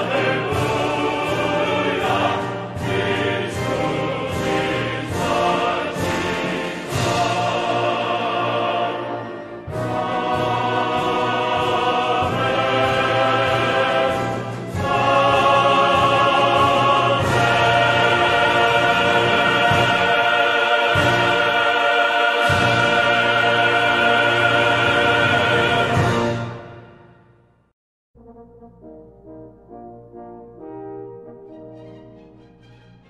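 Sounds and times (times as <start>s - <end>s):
choir with orchestra: 0.0s - 27.4s.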